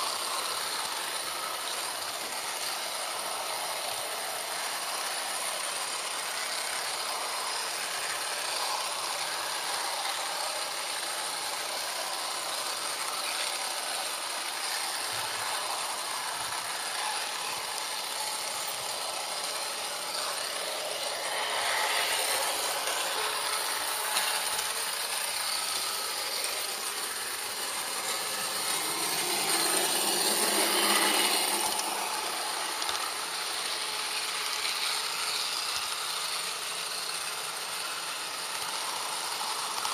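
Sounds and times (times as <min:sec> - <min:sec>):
model train wheels rattling: 0:00.0 - 0:39.9.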